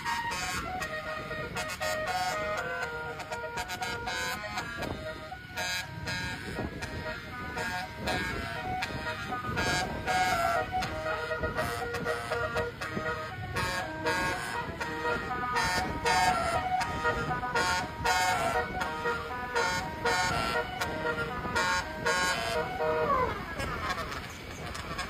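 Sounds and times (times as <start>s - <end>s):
musical bus horn playing tune: 0.0s - 25.0s.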